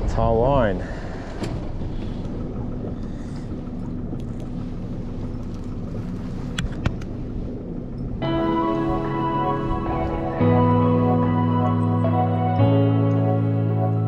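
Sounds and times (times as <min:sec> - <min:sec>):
boat motor running: 0:00.8 - 0:14.0.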